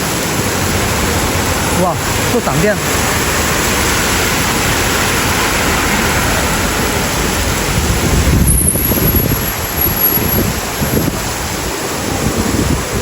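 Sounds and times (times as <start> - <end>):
pouring rain hiss: 0.0 - 13.0
low rumble: 0.2 - 11.4.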